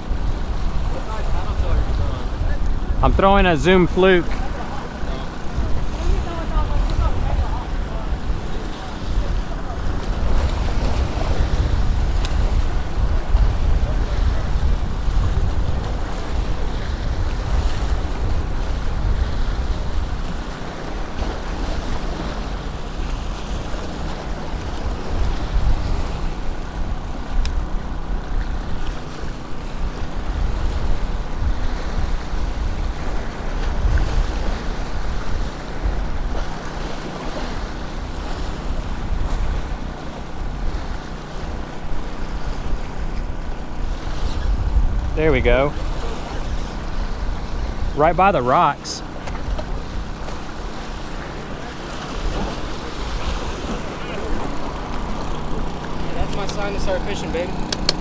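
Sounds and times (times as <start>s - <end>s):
wind buffeting microphone: 0.0s - 48.4s
surf splashing against rocks: 0.0s - 58.0s.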